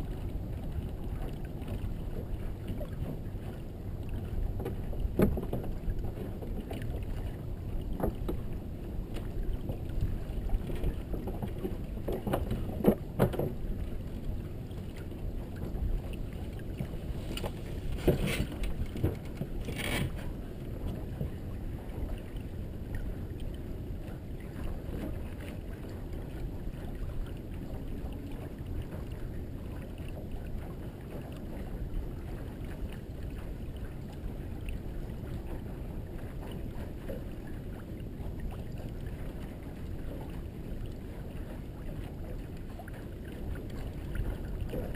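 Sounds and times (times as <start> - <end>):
water rushing along hull: 0.0 - 44.9
wind on microphone: 0.0 - 44.9.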